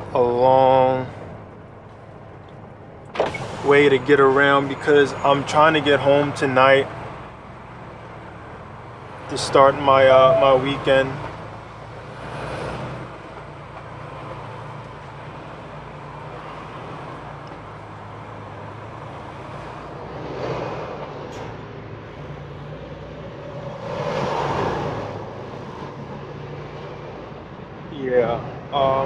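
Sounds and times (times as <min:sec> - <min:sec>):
road noise: 0:00.0 - 0:29.0
truck diesel engine drone: 0:00.0 - 0:29.0.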